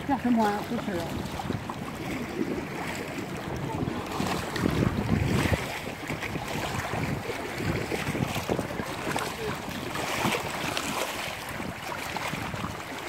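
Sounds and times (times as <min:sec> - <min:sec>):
water lapping and splashing: 0:00.0 - 0:13.0
wind rumbling on microphone: 0:00.0 - 0:13.0.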